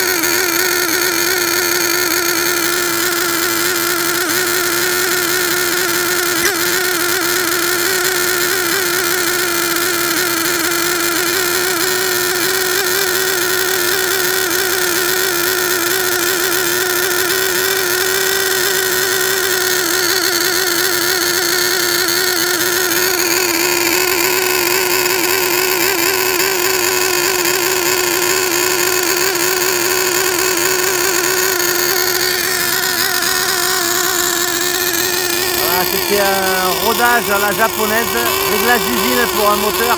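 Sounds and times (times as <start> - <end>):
model engine running loudly: 0.0 - 39.9.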